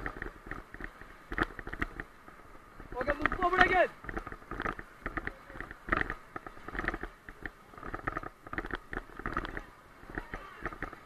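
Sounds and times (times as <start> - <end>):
water splashing around raft: 0.0 - 11.0.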